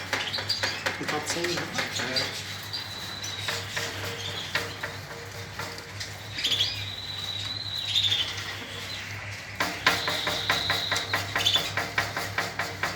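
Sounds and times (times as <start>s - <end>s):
canaries singing: 0.0s - 12.9s.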